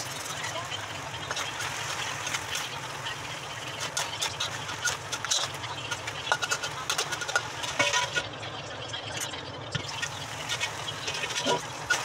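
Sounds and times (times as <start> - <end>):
metal spatula scraping a wok: 0.0 - 8.4, 9.8 - 12.0
food sizzling: 0.0 - 12.0.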